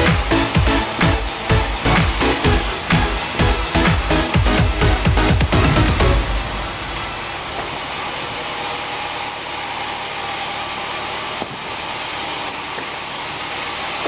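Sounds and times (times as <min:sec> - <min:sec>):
band saw machinery running: 0:00.0 - 0:14.0.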